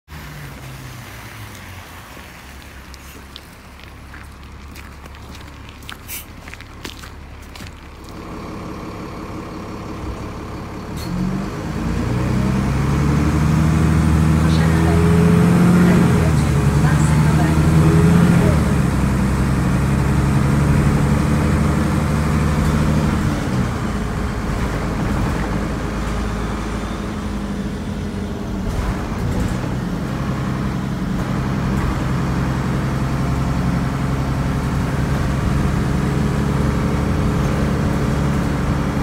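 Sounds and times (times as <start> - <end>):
bus diesel engine drone: 0.0 - 39.0
road rumble: 0.0 - 39.0.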